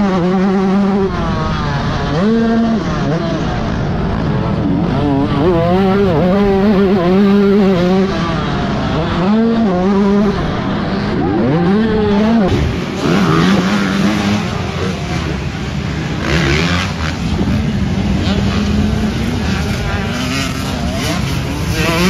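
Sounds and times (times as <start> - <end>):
distant dirt bikes running: 0.0 - 22.0
motocross engine revving: 0.0 - 22.0.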